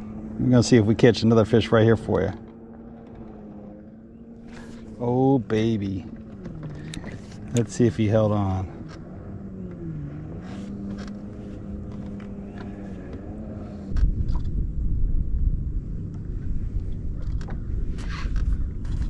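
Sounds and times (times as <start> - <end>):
electric trolling motor humming: 0.0 - 19.0
low rumble: 0.0 - 19.0.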